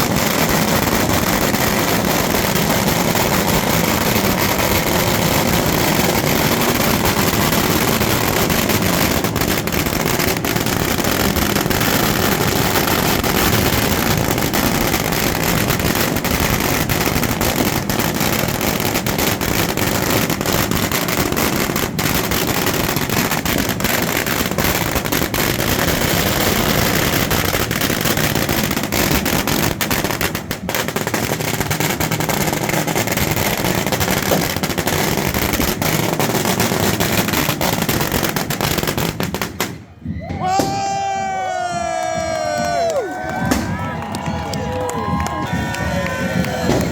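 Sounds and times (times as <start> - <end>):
firecrackers crackling: 0.0 - 46.9.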